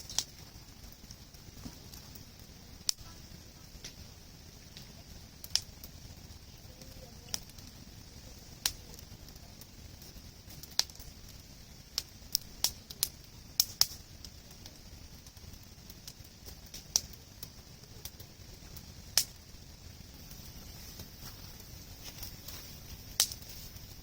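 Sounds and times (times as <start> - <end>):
sharp pops: 0.0 - 6.0, 8.6 - 24.0
campfire crackling: 0.0 - 24.0
steady hiss: 0.0 - 24.0.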